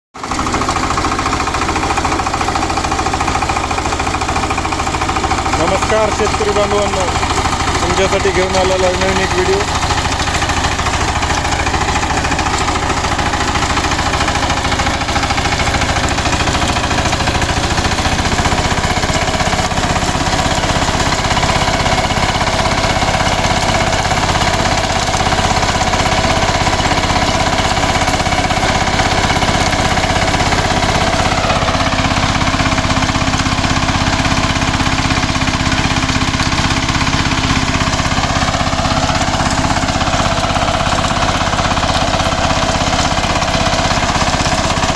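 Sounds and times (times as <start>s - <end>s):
diesel engine knocking: 0.2s - 44.9s.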